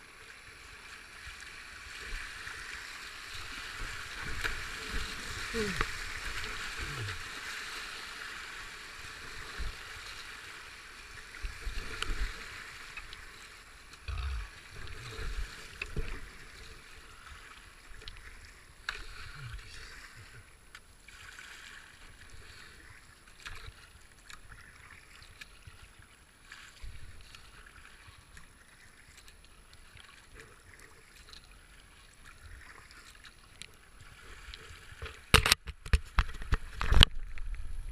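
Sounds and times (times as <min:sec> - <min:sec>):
river water rushing around a hull: 0:00.0 - 0:35.5.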